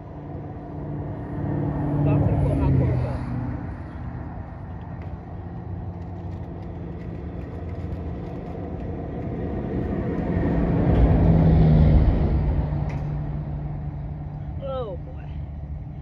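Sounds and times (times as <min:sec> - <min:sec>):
vehicle engine hum passing: 0:00.0 - 0:16.0.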